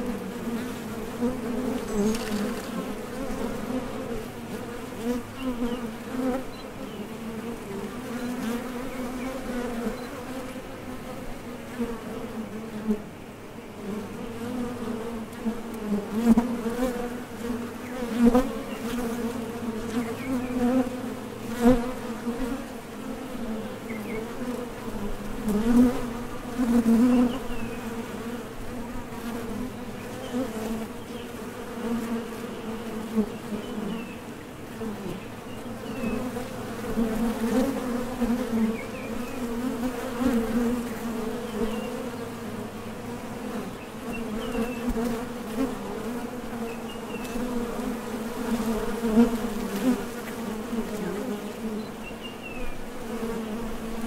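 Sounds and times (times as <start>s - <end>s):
honey bees buzzing: 0.0s - 54.0s.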